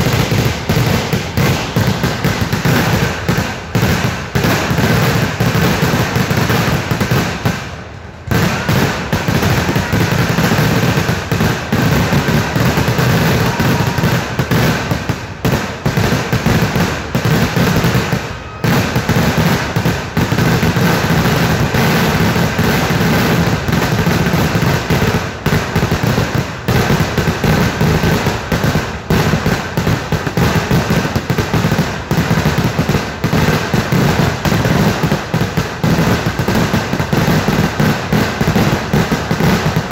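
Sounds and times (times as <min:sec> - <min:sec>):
firecrackers banging and crackling: 0:00.0 - 0:39.9.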